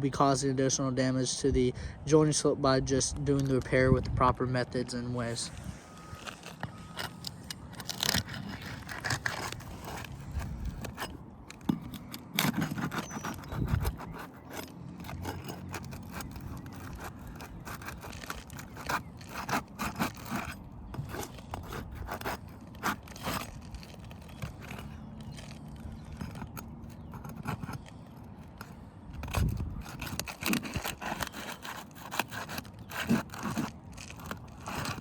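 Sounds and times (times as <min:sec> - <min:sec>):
tools scraping roof shingles: 0:03.3 - 0:35.0.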